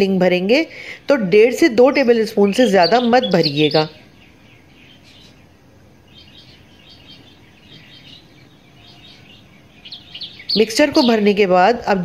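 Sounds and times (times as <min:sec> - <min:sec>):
birds chirping: 0:00.0 - 0:12.0
low background hiss: 0:00.0 - 0:12.0.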